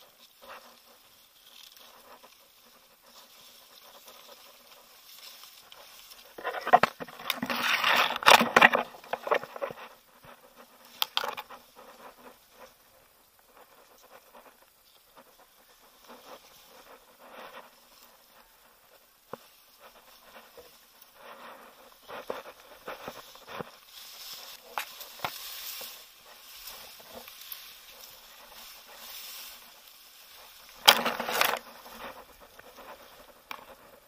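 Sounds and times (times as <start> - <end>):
dry grass rustling and crackling: 0.0 - 34.0.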